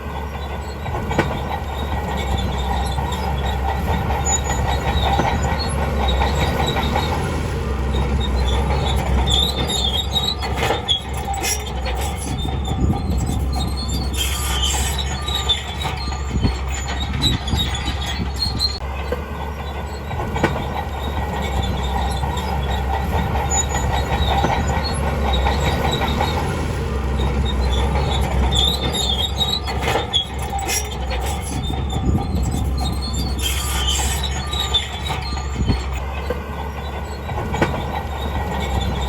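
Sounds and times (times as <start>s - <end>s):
bulldozer engine humming: 0.0s - 39.0s
steel tracks squealing and clanking: 0.0s - 39.0s.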